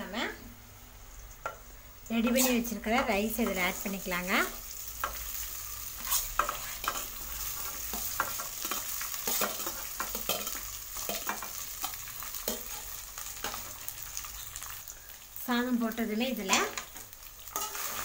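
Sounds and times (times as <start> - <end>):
hot oil sizzling in a pan: 0.0 - 18.0.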